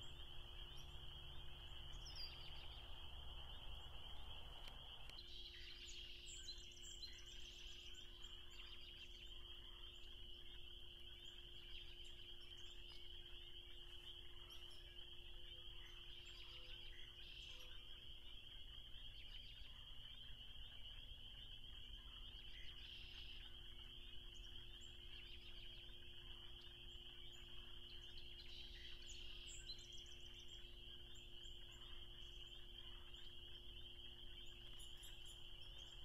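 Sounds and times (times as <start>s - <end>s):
bird chirps: 0.0s - 36.0s
frogs peeping trill: 0.0s - 36.0s.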